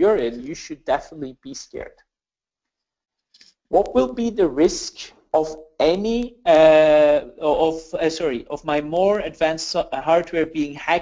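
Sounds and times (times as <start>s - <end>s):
person speaking: 0.0s - 2.0s, 3.4s - 11.0s.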